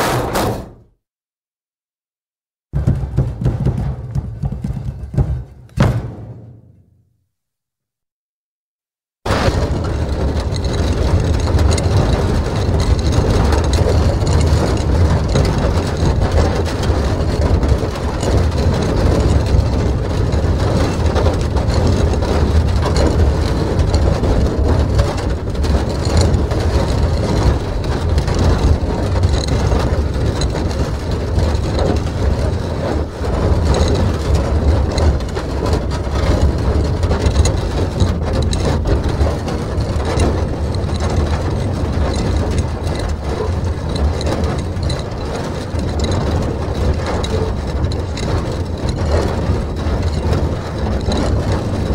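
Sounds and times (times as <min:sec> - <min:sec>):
steel barrel rolling on floor: 0:00.0 - 0:00.9, 0:02.8 - 0:06.9, 0:09.3 - 0:51.9.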